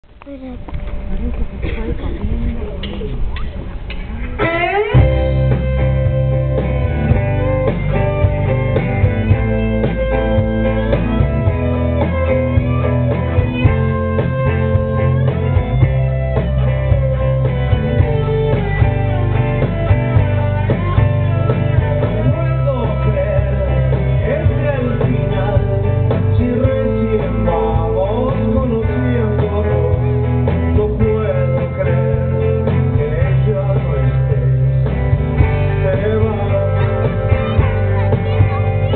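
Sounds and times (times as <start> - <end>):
live rock band playing: 4.3 - 38.9.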